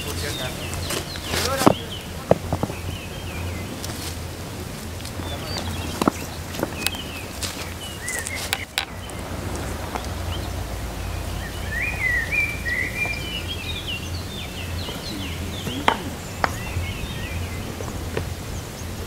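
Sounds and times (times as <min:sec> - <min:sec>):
bird singing: 0:00.0 - 0:04.0, 0:05.2 - 0:19.0
low outdoor rumble: 0:00.0 - 0:19.0.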